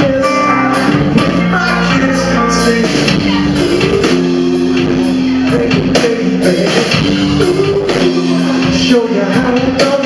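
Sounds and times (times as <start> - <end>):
live band playing slow song: 0.0 - 10.0
person singing: 0.0 - 10.0.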